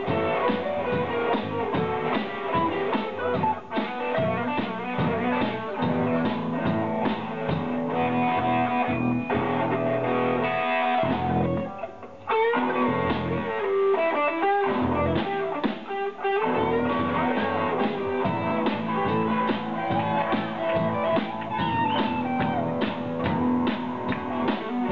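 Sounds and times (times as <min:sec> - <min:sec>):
live blues rock band: 0:00.0 - 0:24.9.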